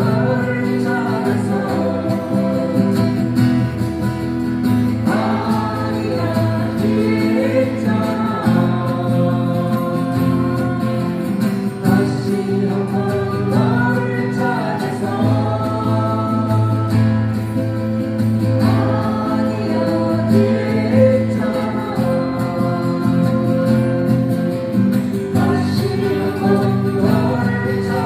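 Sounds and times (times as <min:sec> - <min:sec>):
person singing: 0:00.0 - 0:03.6, 0:04.8 - 0:28.0
strummed acoustic guitar: 0:00.0 - 0:28.0.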